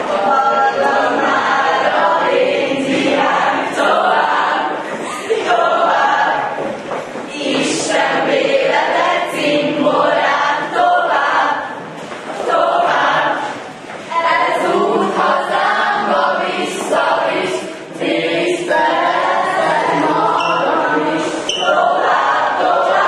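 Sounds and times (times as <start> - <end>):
group singing together: 0.0 - 23.0.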